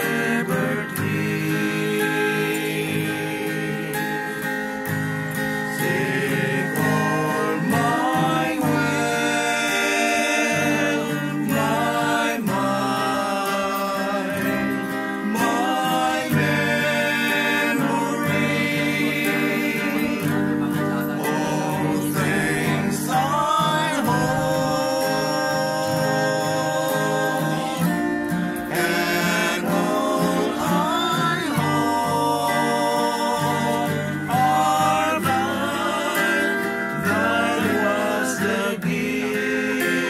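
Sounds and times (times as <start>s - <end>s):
people singing a hymn: 0.0s - 40.0s
strummed acoustic guitar: 0.0s - 40.0s.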